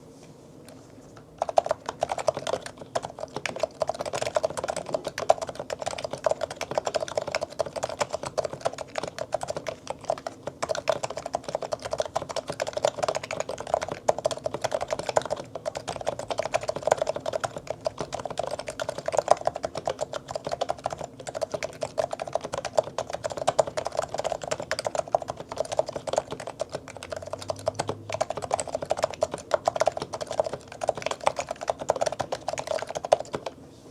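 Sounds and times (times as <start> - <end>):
fast keyboard typing: 1.2 - 33.6.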